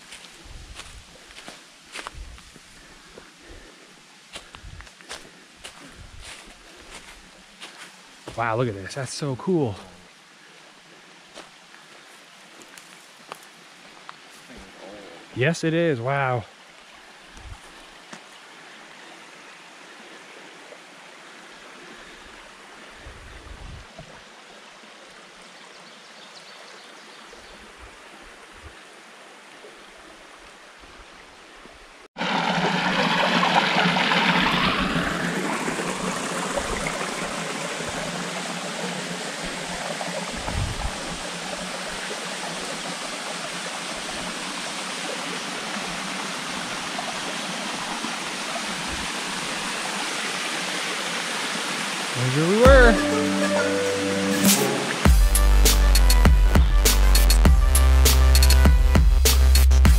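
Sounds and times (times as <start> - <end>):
rushing stream water: 0.0 - 55.2.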